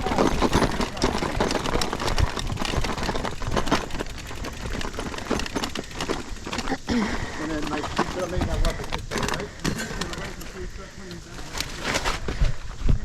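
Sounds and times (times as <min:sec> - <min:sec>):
mountain bike rattling on trail: 0:00.0 - 0:12.7.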